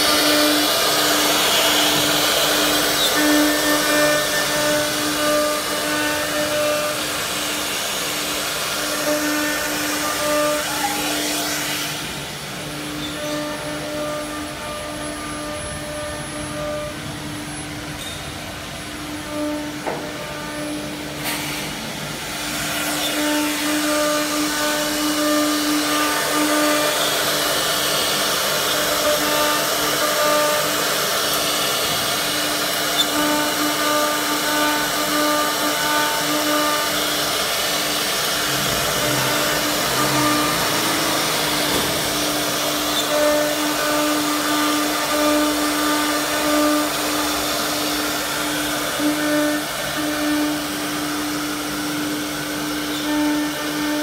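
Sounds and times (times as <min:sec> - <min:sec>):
high whining tones: 0:00.0 - 0:53.5
cnc router hum: 0:00.0 - 0:54.0.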